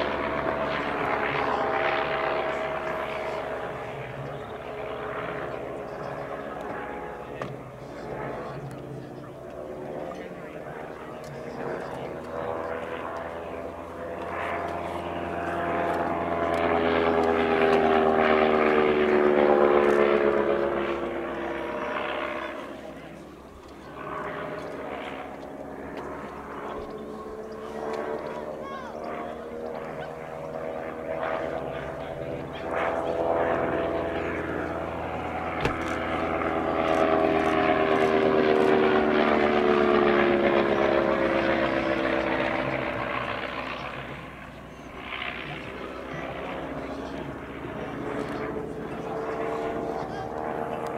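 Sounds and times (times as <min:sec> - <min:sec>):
plane engine flying past: 0:00.0 - 0:50.9.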